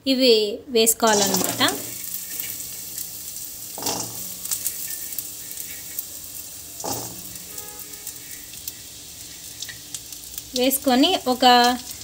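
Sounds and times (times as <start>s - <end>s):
seeds sizzling in oil: 0.9s - 12.0s.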